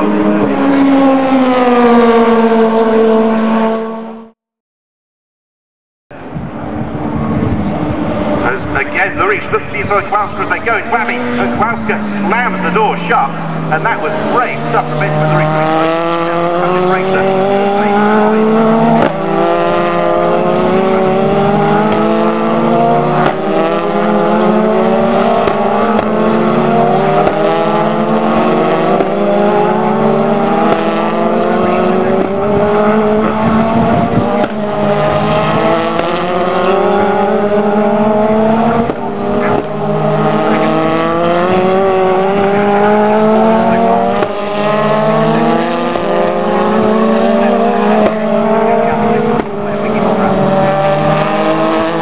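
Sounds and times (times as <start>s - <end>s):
race cars accelerating past: 0.0s - 4.4s, 6.2s - 52.0s.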